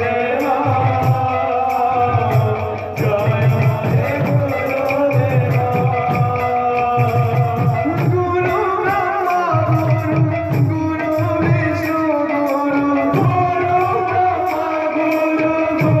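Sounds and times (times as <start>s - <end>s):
devotional singing: 0.0s - 16.0s
drum strokes: 0.0s - 16.0s.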